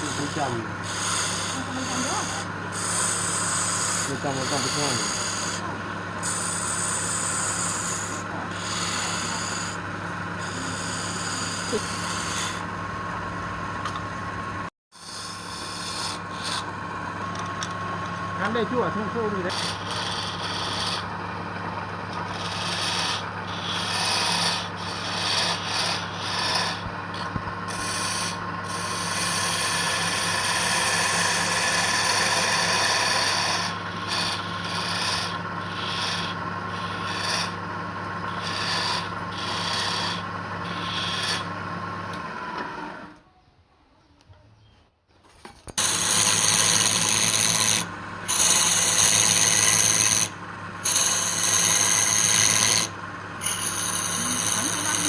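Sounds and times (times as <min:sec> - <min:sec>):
rasping on wood: 0:00.0 - 0:12.7, 0:15.0 - 0:17.5, 0:18.1 - 0:41.5, 0:45.8 - 0:55.0
electric motor humming: 0:00.0 - 0:43.2, 0:45.6 - 0:55.0.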